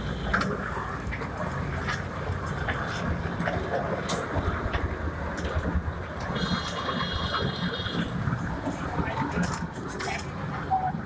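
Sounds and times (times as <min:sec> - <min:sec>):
clicks and clacks on track: 0:00.0 - 0:11.0
electric ride train rumbling: 0:00.0 - 0:11.0.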